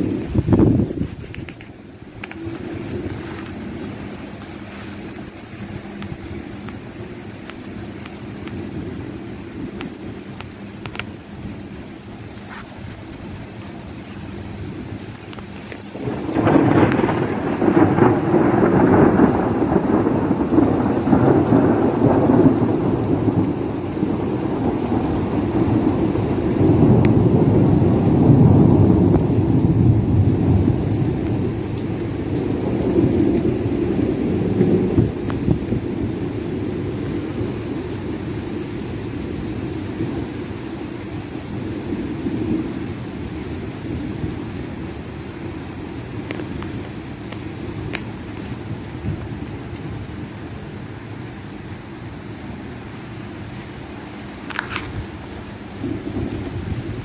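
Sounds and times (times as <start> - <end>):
thunder rumbling: 0.0 - 52.2, 52.9 - 57.0
rain on wet pavement: 0.0 - 57.0.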